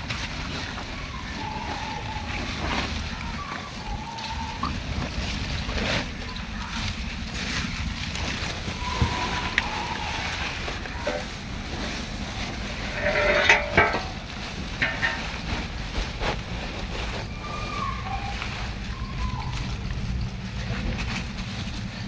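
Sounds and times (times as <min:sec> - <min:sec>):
plastic sack rustling: 0:00.0 - 0:22.0.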